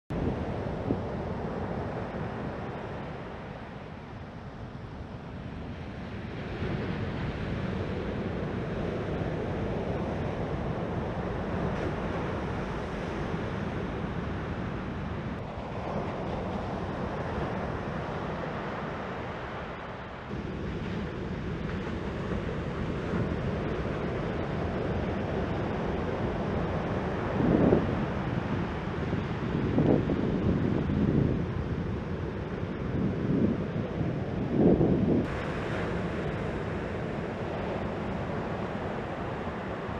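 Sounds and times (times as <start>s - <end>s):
ocean waves breaking: 0.1s - 39.9s
wind on microphone: 0.1s - 39.9s.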